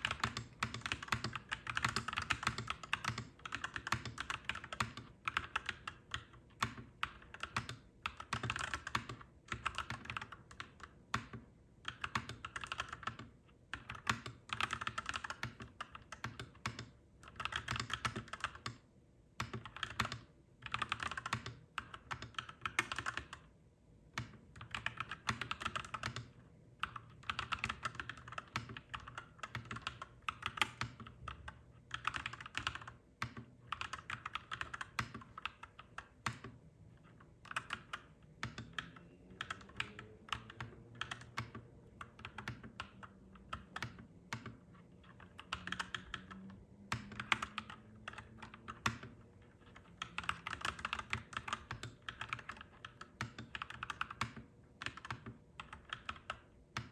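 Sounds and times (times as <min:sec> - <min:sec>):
mechanical keyboard typing: 0:00.0 - 0:18.8, 0:19.4 - 0:23.5, 0:24.1 - 0:56.9.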